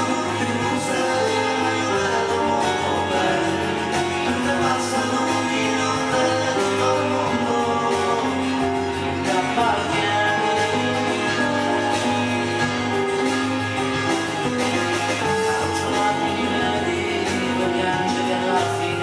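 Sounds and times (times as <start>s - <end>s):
keyboard band-style music: 0.0s - 19.0s.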